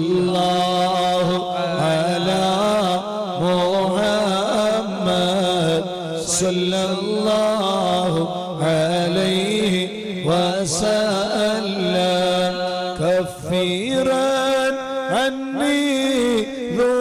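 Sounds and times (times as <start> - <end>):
person chanting melodically: 0.0 - 17.0.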